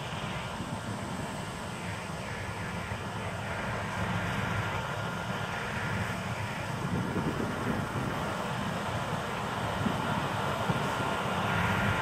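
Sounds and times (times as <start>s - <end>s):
combine harvester droning: 0.0s - 12.0s.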